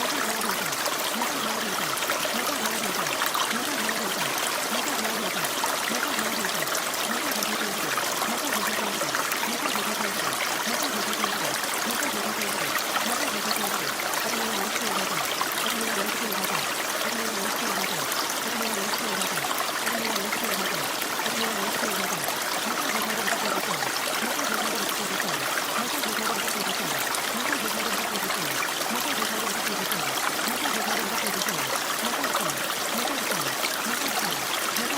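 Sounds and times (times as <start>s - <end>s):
steady rain hiss: 0.0s - 34.9s
water drips and trickles: 0.0s - 34.9s.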